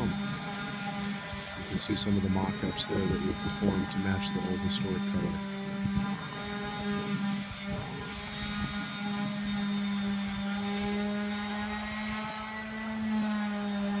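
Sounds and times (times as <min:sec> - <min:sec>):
low pitched drone: 0:00.0 - 0:12.8.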